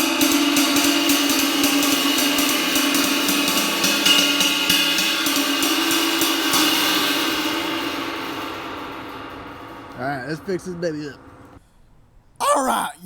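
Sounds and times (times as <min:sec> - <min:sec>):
cracked ride cymbal struck with stick: 0:00.0 - 0:12.3.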